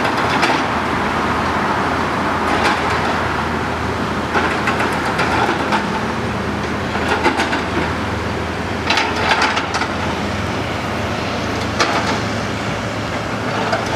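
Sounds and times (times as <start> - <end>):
machinery and vehicle hum: 0.0 - 13.9.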